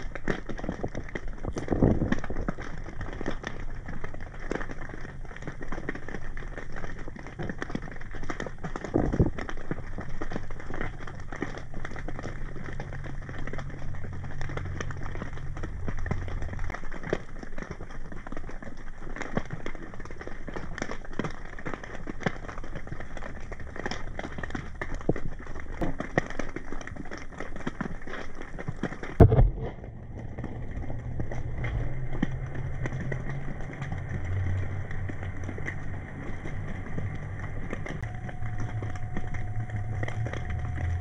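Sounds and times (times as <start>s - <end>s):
low steady hum: 0.0s - 41.0s
underwater crackle of clicks: 0.0s - 41.0s.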